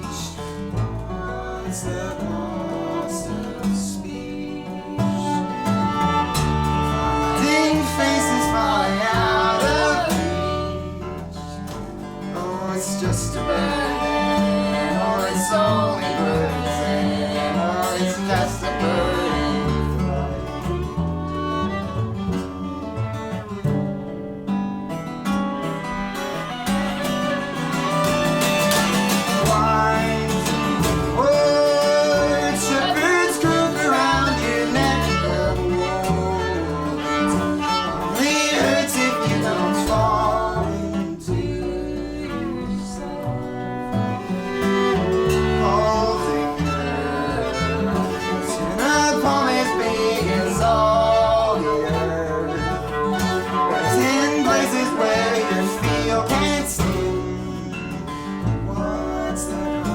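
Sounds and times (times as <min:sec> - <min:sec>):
viola sliding melody: 0:00.0 - 0:23.8, 0:25.5 - 0:59.9
bass: 0:00.0 - 0:59.9
strummed acoustic guitar: 0:00.0 - 0:59.9.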